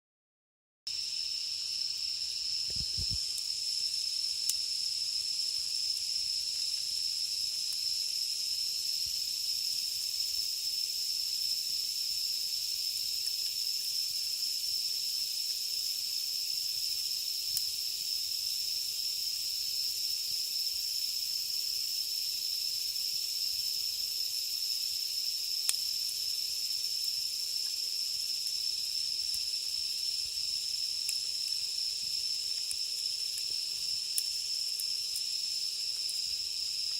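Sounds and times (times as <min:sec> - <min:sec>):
cicadas singing: 0:00.9 - 0:36.9
campfire embers crackling: 0:01.0 - 0:36.9.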